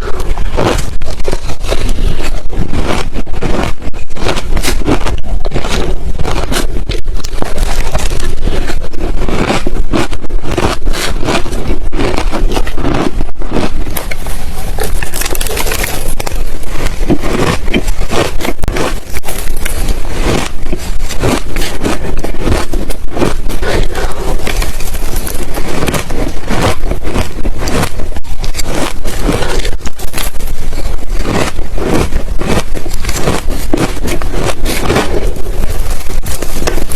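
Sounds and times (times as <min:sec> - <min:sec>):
ice being chewed: 0:00.0 - 0:36.9.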